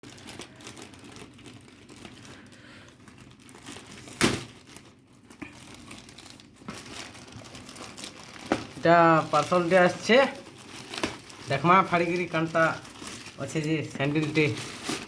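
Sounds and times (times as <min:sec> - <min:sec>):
loud packaging crack: 0:00.0 - 0:15.0
packaging crinkling and rustling: 0:00.0 - 0:15.0.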